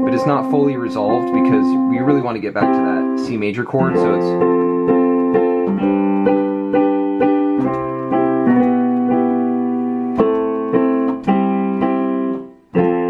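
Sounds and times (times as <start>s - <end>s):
digital piano block chords: 0.0s - 13.0s.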